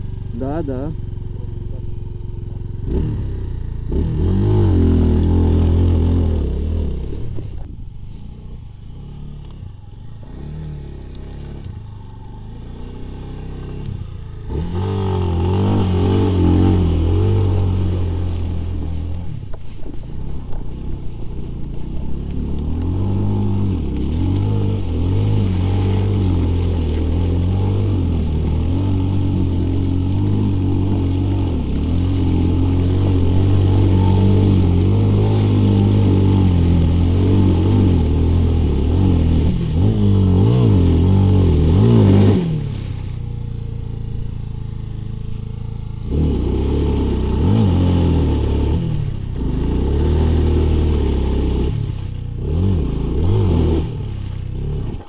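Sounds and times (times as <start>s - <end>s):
motorcycle engine revving: 0.0s - 55.0s
rear wheel spinning in mud: 0.0s - 55.0s.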